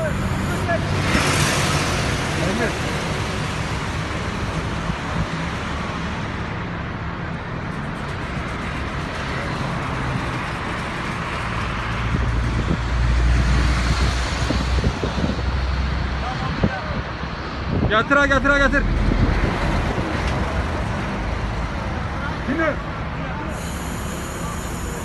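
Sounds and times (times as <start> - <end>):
engine running: 0.0 - 15.4, 18.3 - 25.0
road traffic: 0.0 - 25.0.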